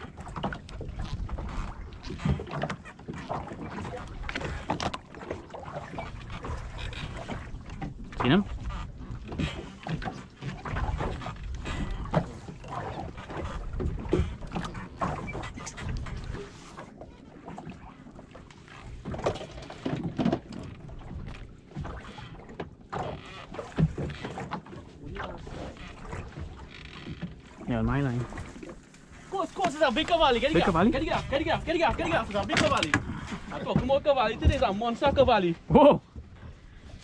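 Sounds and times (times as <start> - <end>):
water slapping against boat hull: 0.0 - 37.0.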